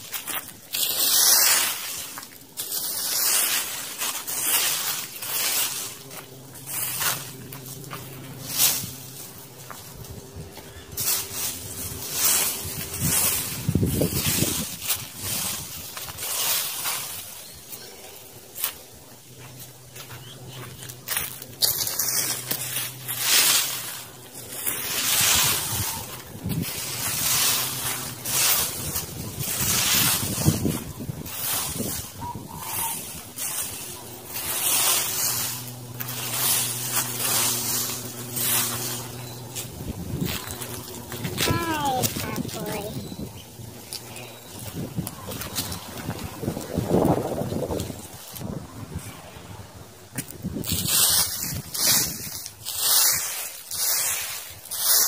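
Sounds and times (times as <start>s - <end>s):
rake scraping through dry leaves: 0.0s - 55.0s.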